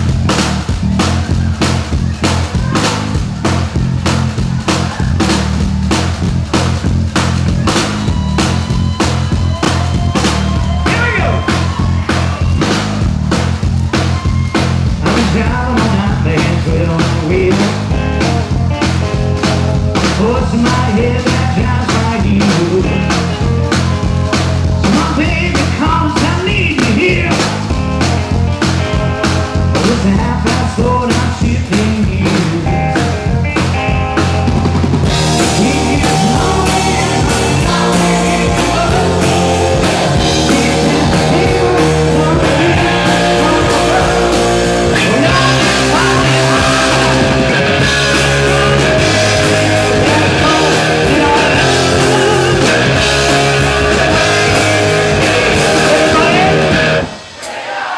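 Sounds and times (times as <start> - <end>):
rock band playing: 0.0 - 57.4.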